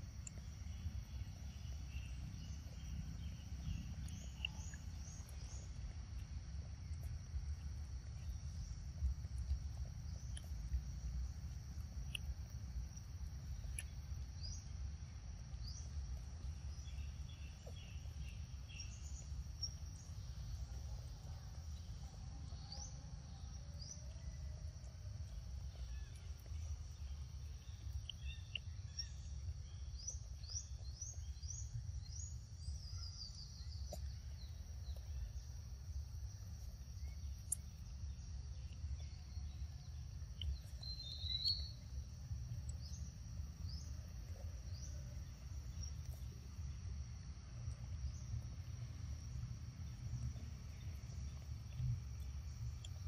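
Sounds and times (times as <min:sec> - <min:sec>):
high insect drone: 0:00.0 - 0:53.0.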